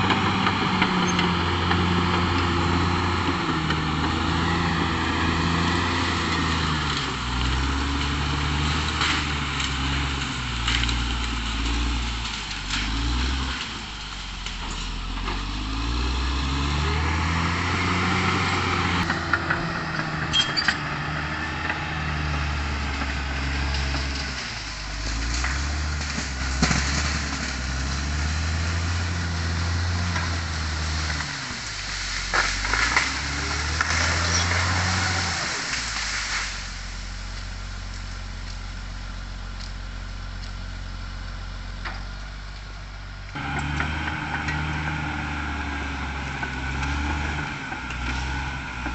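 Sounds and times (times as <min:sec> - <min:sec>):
bulldozer diesel engine working: 0:00.0 - 0:48.9.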